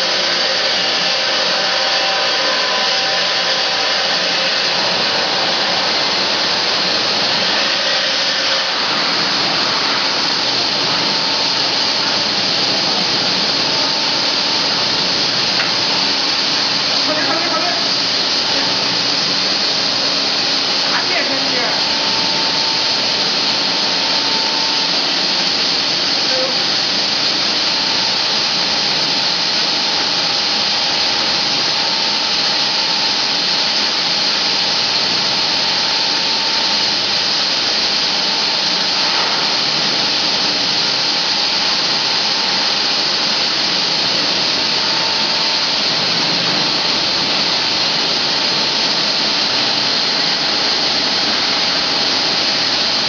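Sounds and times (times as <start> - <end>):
cutting machine hissing whir: 0.0 - 53.0.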